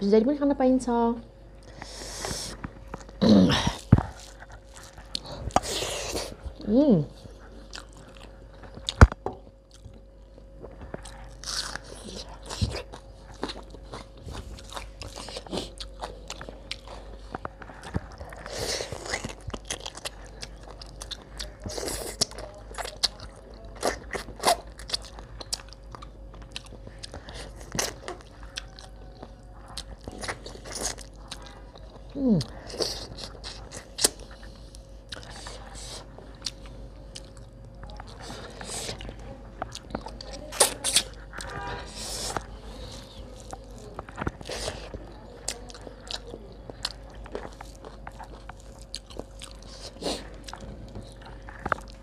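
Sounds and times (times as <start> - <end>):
faint steady hum: 0.0 - 52.0
person chewing food: 1.5 - 52.0.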